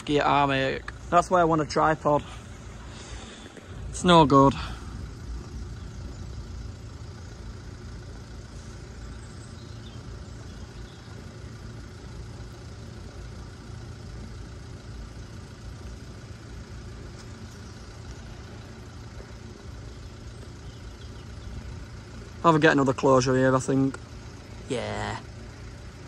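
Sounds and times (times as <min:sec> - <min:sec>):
car engines idling: 0:00.0 - 0:26.0.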